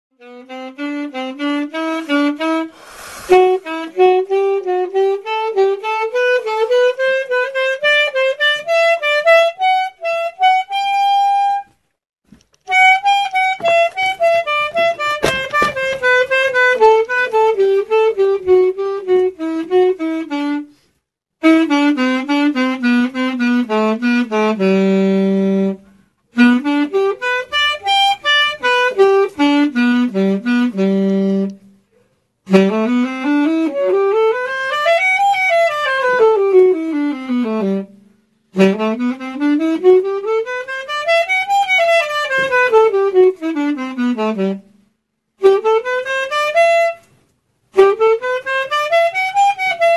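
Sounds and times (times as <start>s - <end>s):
reedy instrument melody: 0.2s - 11.8s, 12.6s - 20.8s, 21.4s - 31.8s, 32.5s - 44.8s, 45.4s - 49.9s.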